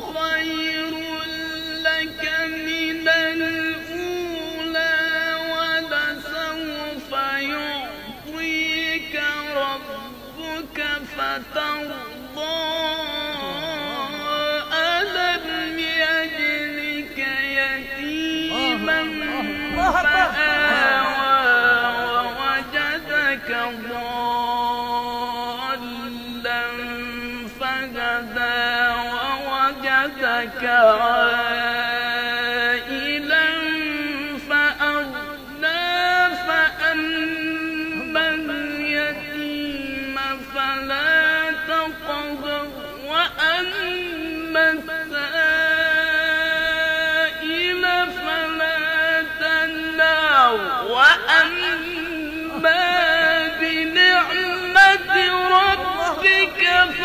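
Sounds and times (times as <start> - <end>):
man chanting melodically: 0.0 - 57.0.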